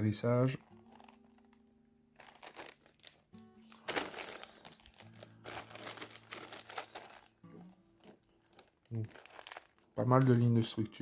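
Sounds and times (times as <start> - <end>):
soft background music: 0.0 - 11.0
plastic bag crinkling: 0.5 - 10.5.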